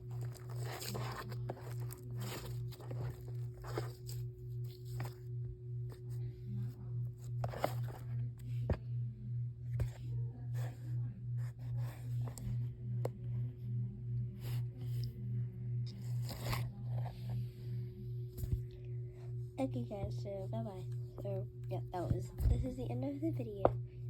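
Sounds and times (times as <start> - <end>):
low pulsing hum: 0.0 - 24.0.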